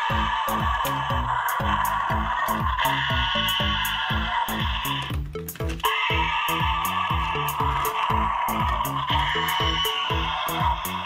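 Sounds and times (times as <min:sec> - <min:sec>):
electronic toy roar: 0:00.0 - 0:11.0
music with plucked figure: 0:00.0 - 0:11.0.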